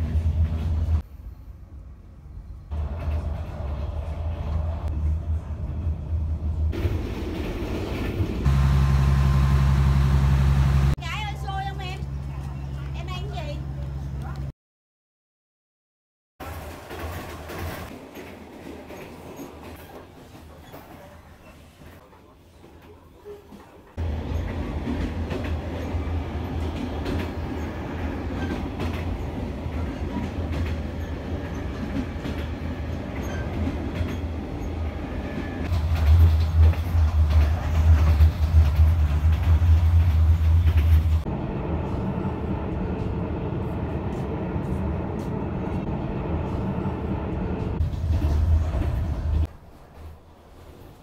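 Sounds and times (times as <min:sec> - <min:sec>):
train rumbling on rails: 0:00.0 - 0:14.5, 0:16.4 - 0:51.0.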